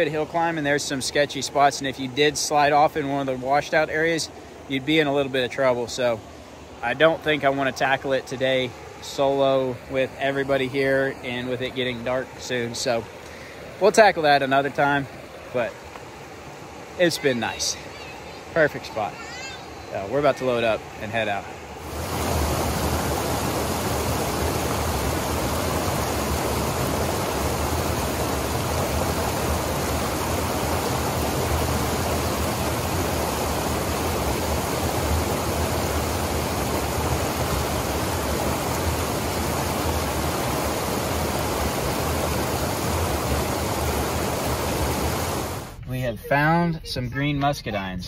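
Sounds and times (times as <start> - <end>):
creek water rushing over rocks: 0.0 - 46.9.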